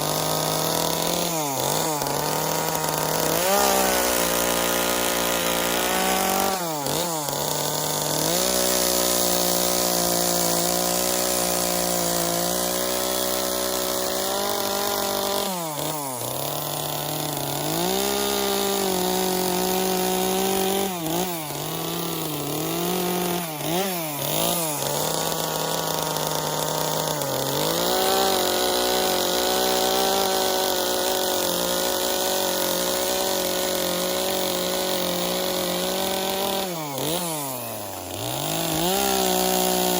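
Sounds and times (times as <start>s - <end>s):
chainsaw carving wood: 0.0s - 39.9s.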